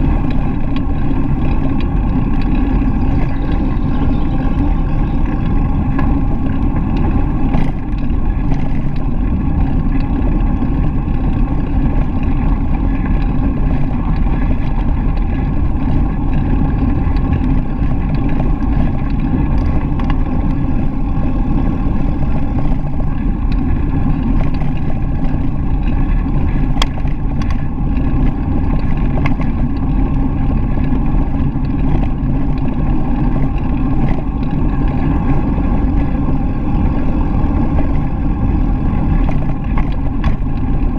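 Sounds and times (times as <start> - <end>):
bicycle tyres rolling on pavement: 0.0 - 40.9
wind rumble on microphone: 0.0 - 40.9.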